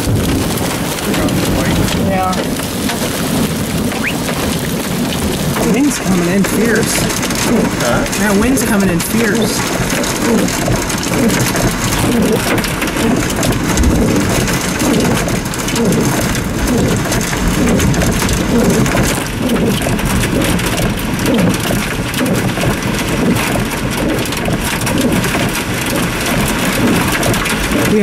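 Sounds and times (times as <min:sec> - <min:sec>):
heavy rain on a car roof: 0:00.0 - 0:28.0.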